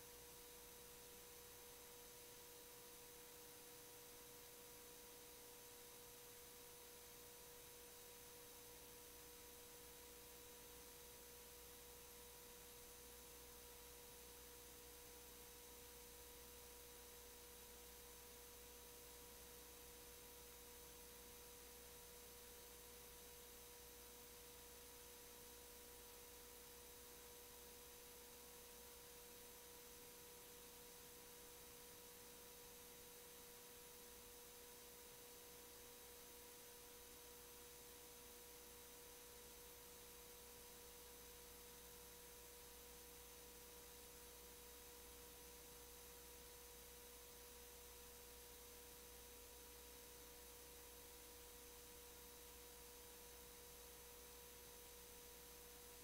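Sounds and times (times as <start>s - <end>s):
faint steady tone: 0.0s - 56.0s.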